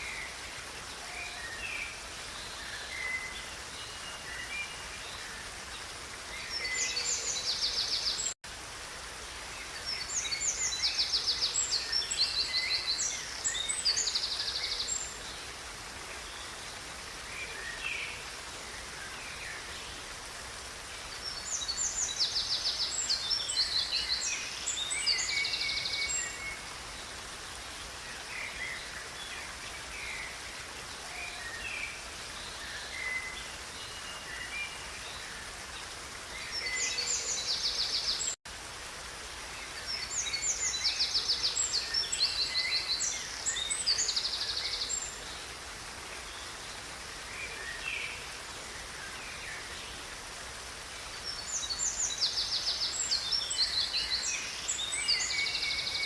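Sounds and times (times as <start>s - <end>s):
songbirds singing: 0.0s - 8.4s, 9.4s - 38.4s, 39.5s - 56.0s
river water rushing: 0.0s - 56.0s.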